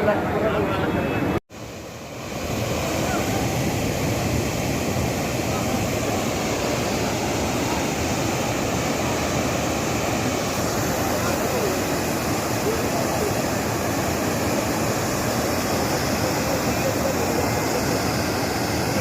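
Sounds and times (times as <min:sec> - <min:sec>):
floodwater rushing: 0:01.5 - 0:19.0.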